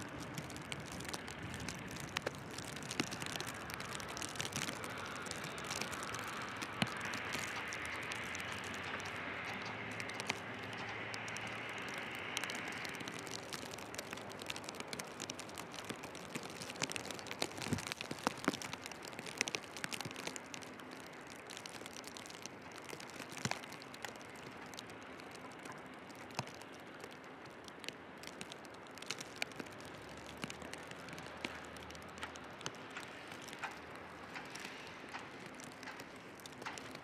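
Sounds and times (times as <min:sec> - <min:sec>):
soft crunching clicks: 0:00.0 - 0:37.0
wind and falling snow hiss: 0:00.0 - 0:37.0.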